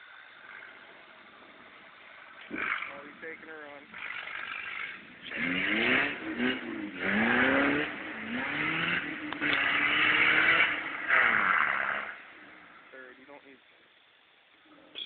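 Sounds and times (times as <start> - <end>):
car engine accelerating: 0.0 - 13.4.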